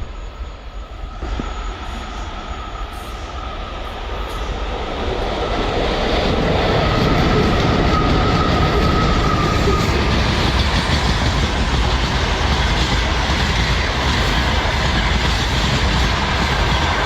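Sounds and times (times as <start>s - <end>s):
high-pitched whine: 0.0s - 14.2s
freight train passing: 0.0s - 17.0s.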